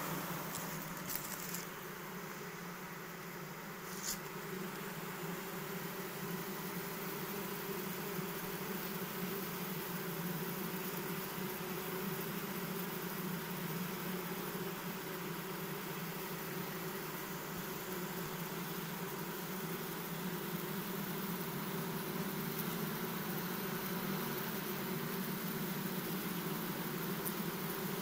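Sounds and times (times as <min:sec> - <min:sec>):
honeybee colony humming: 0:00.0 - 0:28.0.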